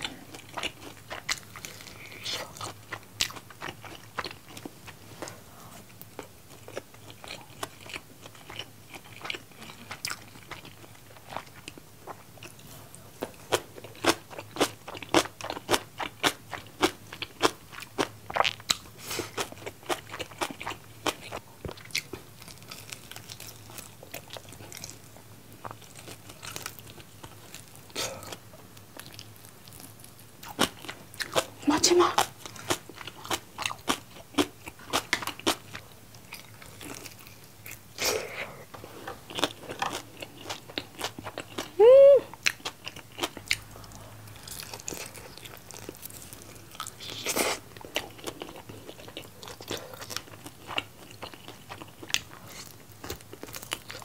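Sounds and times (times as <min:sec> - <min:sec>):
chewing crunchy fried chicken: 0:00.0 - 0:54.0.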